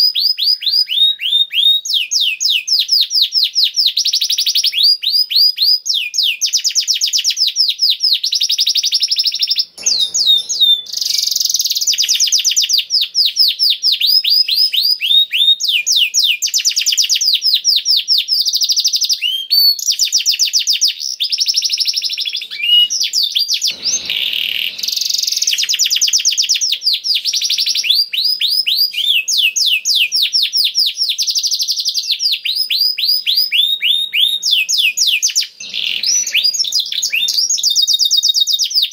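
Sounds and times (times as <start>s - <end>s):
canary singing trills: 5.9s - 38.9s.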